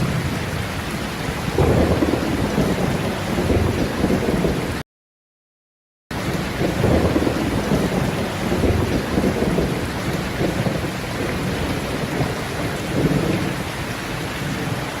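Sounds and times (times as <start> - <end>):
heavy rain: 0.0 - 4.8, 6.1 - 15.0
rolling thunder: 0.0 - 4.8, 6.2 - 15.0.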